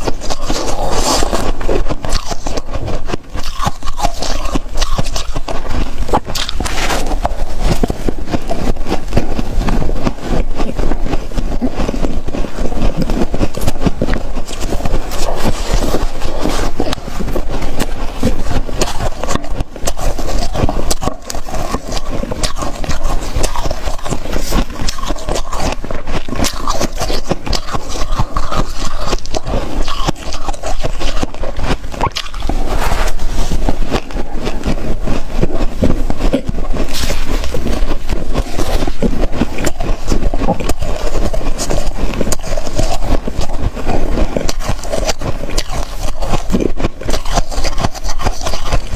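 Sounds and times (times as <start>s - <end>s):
crunching ice: 0.0s - 48.9s.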